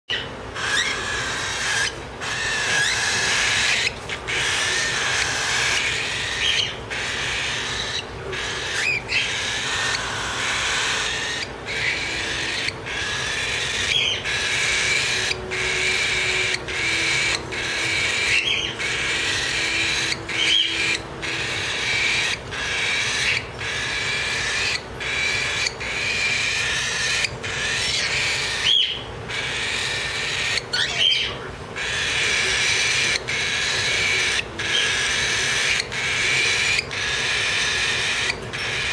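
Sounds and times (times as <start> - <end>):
baby cockatiels begging calls: 0.1 - 38.9.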